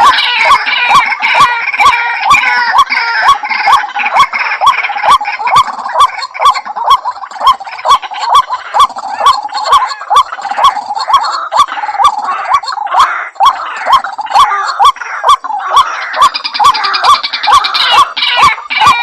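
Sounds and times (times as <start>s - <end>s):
harsh chattering chorus: 0.0s - 19.0s.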